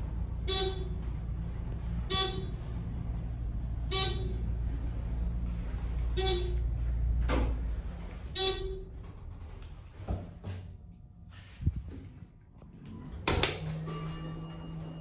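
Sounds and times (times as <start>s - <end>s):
elevator car rumbling: 0.0s - 15.0s.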